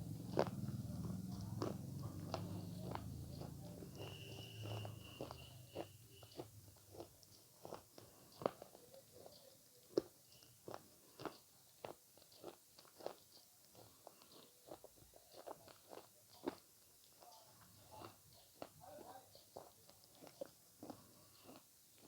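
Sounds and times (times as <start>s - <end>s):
chewing mouth clicks: 0.1s - 18.8s, 19.6s - 22.0s.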